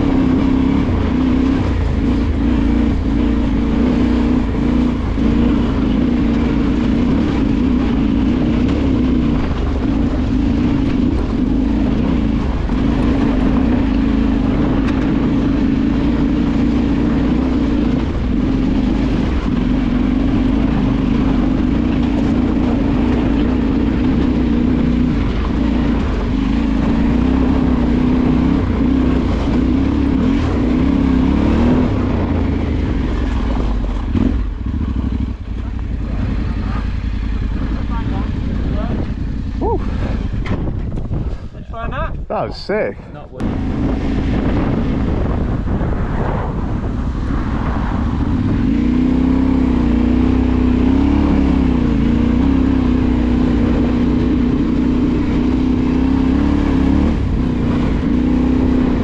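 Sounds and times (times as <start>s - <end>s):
motorcycle engine revving: 0.0s - 42.0s, 43.4s - 59.0s.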